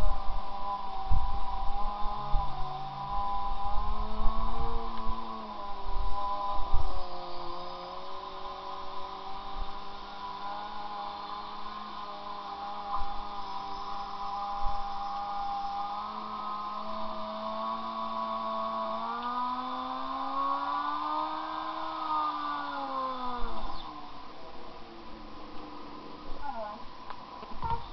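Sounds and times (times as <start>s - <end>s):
motorcycle engine revving high: 0.0s - 26.9s.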